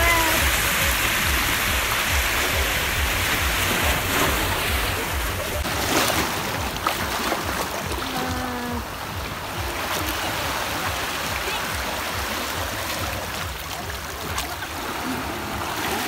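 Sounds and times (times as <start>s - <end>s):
small waves washing over rocks: 0.0s - 16.0s.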